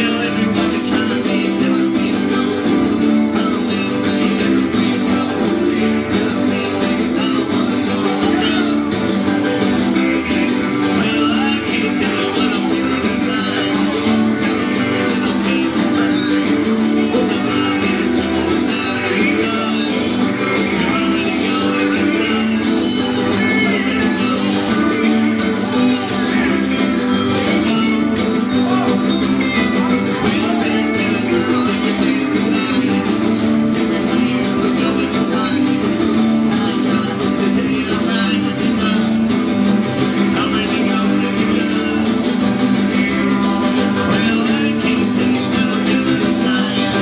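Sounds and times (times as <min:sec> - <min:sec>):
live country-rock band: 0:00.0 - 0:47.0
strummed acoustic guitars: 0:00.0 - 0:47.0.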